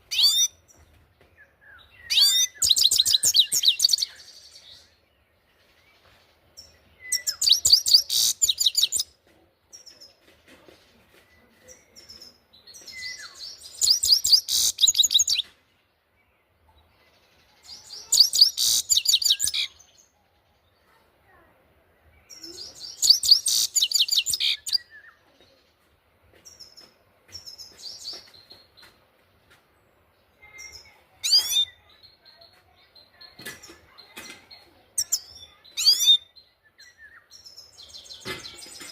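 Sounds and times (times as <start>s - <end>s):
bird chirps and call notes: 0.0s - 5.1s, 6.0s - 10.3s, 10.9s - 15.5s, 16.5s - 21.2s, 22.1s - 25.8s, 30.1s - 38.9s
finch singing: 0.0s - 15.6s, 16.8s - 20.2s, 22.0s - 29.0s, 30.2s - 38.9s.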